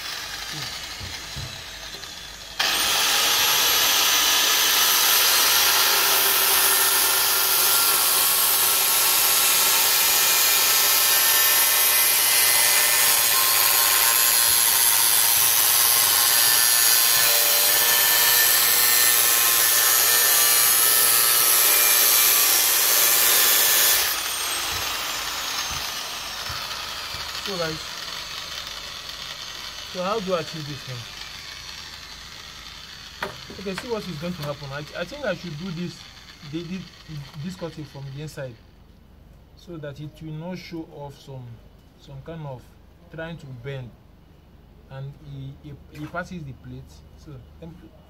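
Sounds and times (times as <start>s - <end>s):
angle grinder cutting sheet steel: 0.0s - 38.5s.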